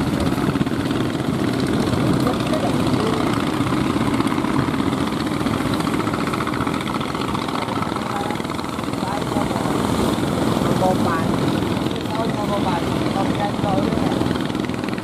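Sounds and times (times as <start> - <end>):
boat engines rumbling: 0.0 - 15.0
waves breaking: 0.0 - 15.0.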